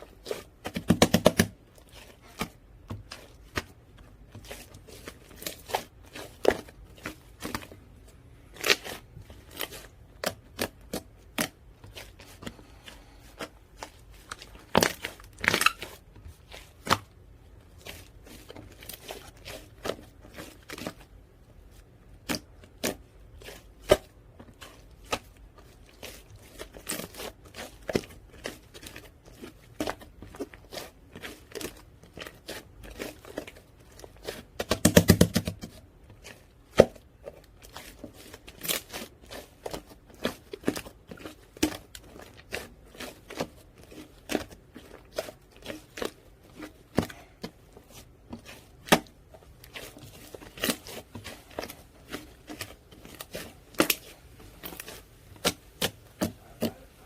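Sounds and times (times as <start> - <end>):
slime squished by hand: 0.0 - 57.0.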